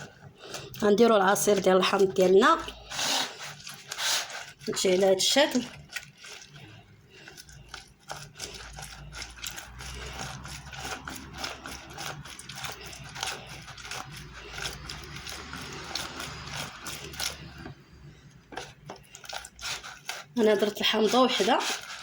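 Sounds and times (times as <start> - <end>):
lemon rubbing on juicer: 0.0 - 22.0
low steady hum: 0.0 - 22.0.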